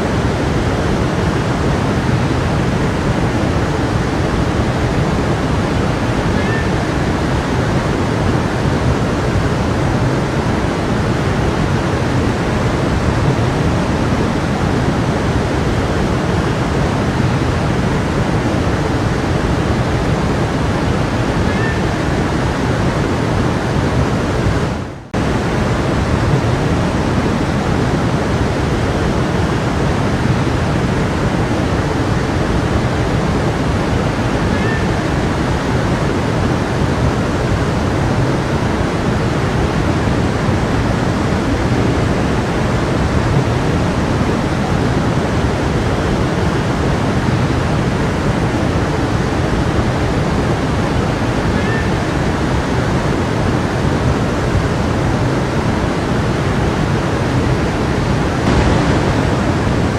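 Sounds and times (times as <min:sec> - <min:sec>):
brook water running: 0:00.0 - 0:59.9.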